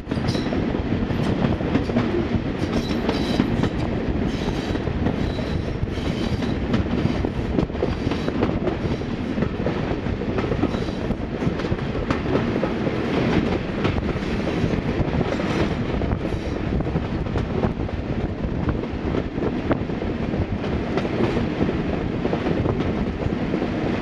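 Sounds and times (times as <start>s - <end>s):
diesel train rumbling past: 0.0s - 24.0s.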